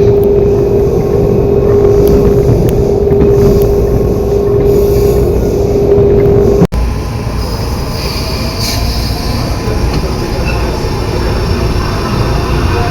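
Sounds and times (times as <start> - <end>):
metro traction motor whine: 0.0 - 12.9.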